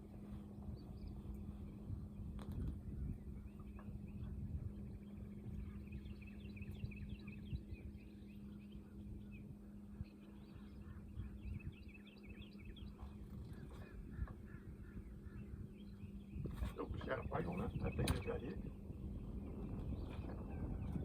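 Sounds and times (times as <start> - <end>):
birds chirping: 0.0 - 21.0
low hum and rumble: 0.0 - 21.0.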